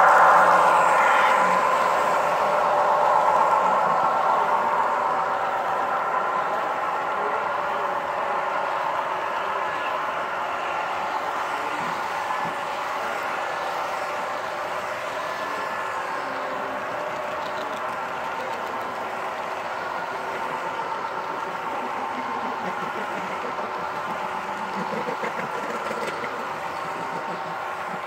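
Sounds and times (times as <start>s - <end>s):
model train wheels rolling on rail: 0.0s - 28.0s.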